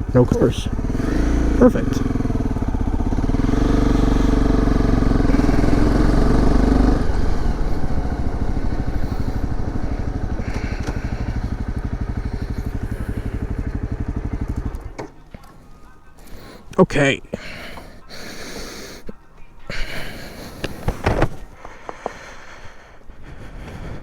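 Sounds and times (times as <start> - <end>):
dirt bike engine running: 0.0 - 19.0, 19.6 - 24.0.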